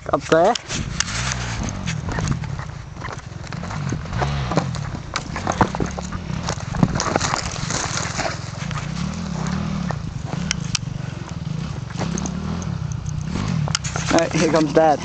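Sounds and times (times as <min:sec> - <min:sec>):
distant dirt bike engine: 0:00.0 - 0:15.0
footsteps crunching on rocky track: 0:00.1 - 0:15.0.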